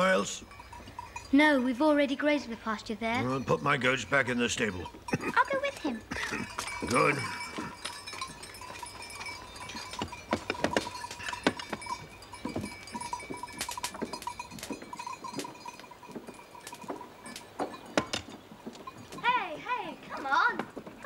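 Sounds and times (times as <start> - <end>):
goat bells clanking: 0.0 - 21.0.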